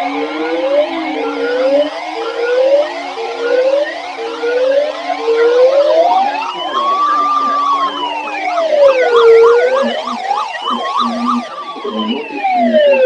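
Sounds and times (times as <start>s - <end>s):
siren fast yelp: 0.0s - 13.0s
siren slow wail: 0.0s - 13.0s.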